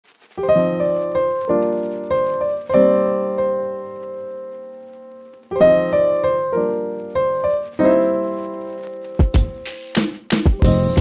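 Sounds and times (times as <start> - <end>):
piano chords ringing: 0.4 - 11.0.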